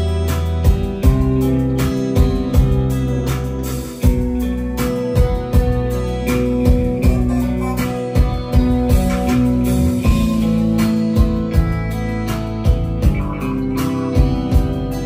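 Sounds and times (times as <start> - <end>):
bass notes: 0.0 - 15.0
electric guitar: 0.0 - 15.0
steady drum beat: 0.0 - 15.0.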